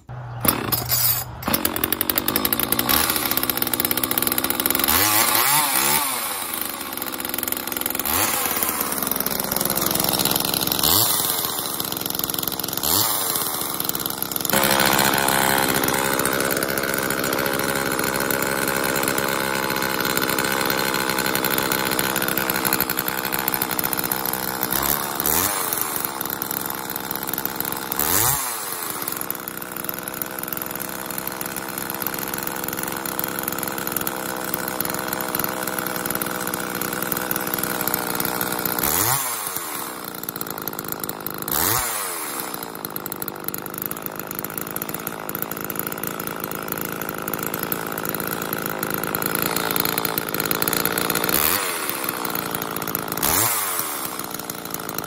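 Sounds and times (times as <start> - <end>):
chainsaw engine revving: 0.0 - 55.0.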